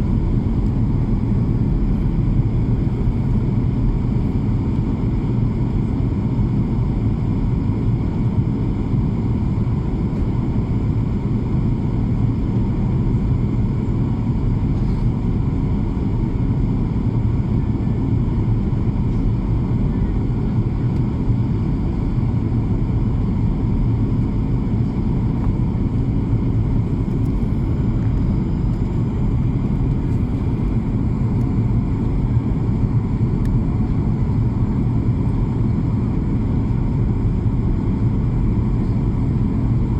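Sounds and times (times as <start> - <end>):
airplane drone in flight: 0.0 - 39.9.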